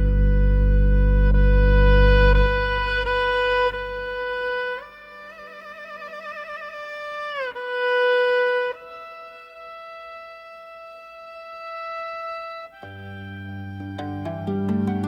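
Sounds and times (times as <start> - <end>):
slow meditative instrumental music: 0.0 - 15.0.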